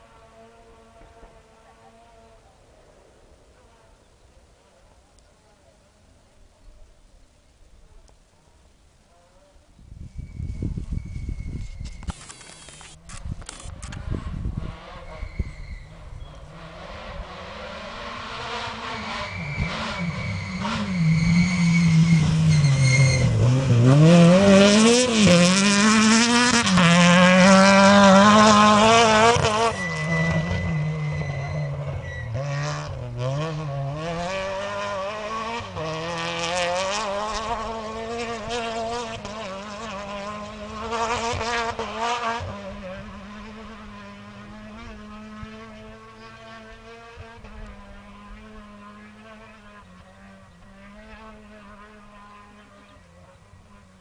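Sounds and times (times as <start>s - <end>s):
rally car engine at full throttle: 0.0s - 2.7s, 10.2s - 54.0s.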